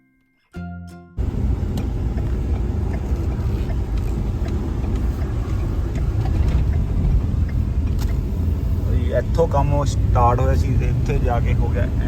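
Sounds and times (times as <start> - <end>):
car road and engine rumble: 1.2 - 12.0.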